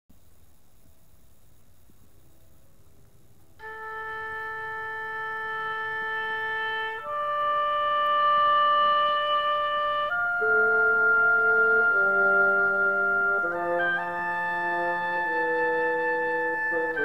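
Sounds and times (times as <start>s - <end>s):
slow instrumental aria: 2.5s - 17.0s.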